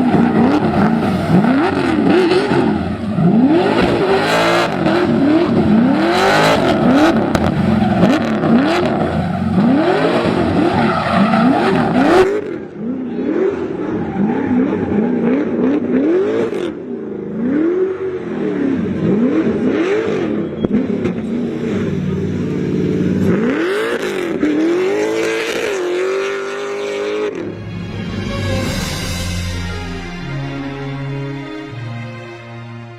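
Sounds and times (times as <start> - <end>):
car engine revving: 0.0 - 31.8.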